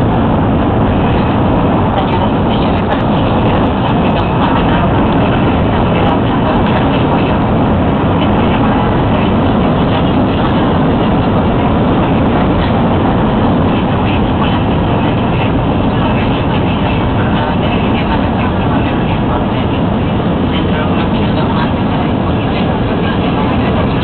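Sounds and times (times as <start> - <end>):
airliner cabin engine rush: 0.0 - 24.0.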